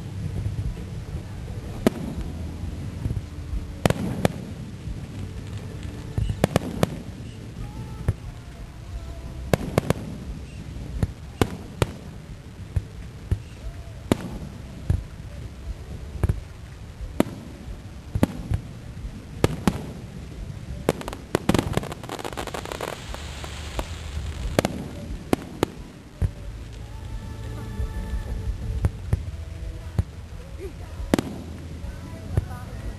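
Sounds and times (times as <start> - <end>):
fireworks bangs: 0.0 - 8.4, 9.4 - 32.7
fireworks crackling: 0.0 - 32.9
fireworks hiss: 0.0 - 32.9.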